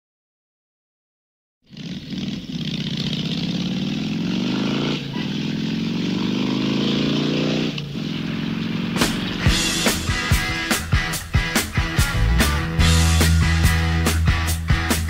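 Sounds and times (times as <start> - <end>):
motorcycle engine accelerating: 1.7 - 15.0.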